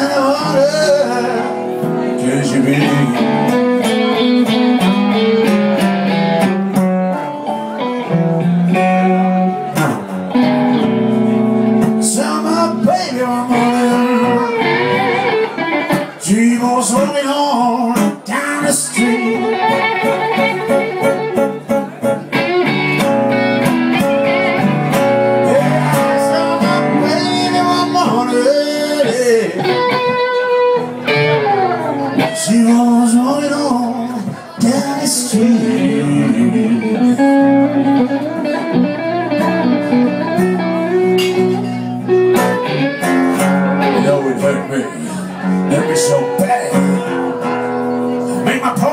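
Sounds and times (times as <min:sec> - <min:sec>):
lead guitar bending notes: 0:00.0 - 0:48.9
live blues band: 0:00.0 - 0:48.9.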